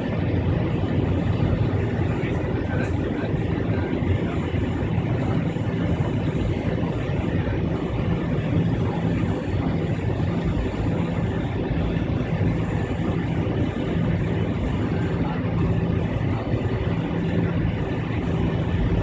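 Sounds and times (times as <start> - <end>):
jet engines running in aircraft cabin: 0.0 - 19.0.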